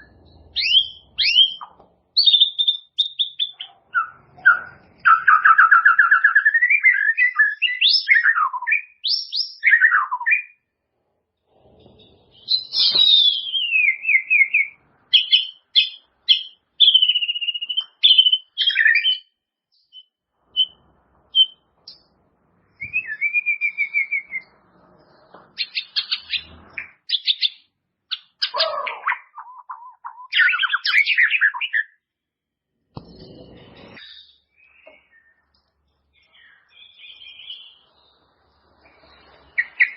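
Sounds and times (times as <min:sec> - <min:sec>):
bird singing whistles and trills: 0:00.0 - 0:10.7, 0:12.0 - 0:22.1, 0:22.7 - 0:32.0, 0:33.1 - 0:39.9.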